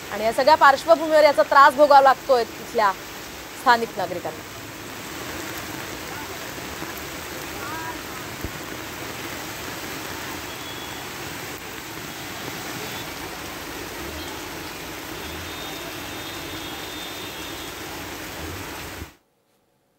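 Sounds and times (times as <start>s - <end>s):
floodwater rushing: 0.0s - 19.2s
heavy rain: 0.0s - 19.2s.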